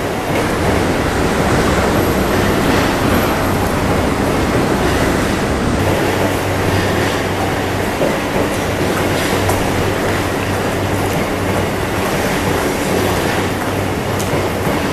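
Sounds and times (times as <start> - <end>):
electric train passing: 0.0 - 14.9.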